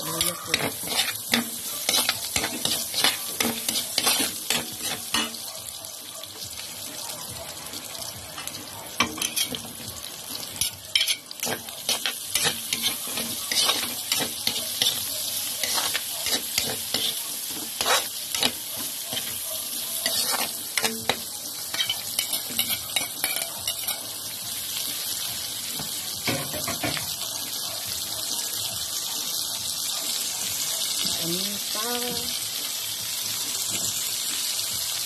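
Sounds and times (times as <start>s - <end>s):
food sizzling in a pan: 0.0s - 35.0s.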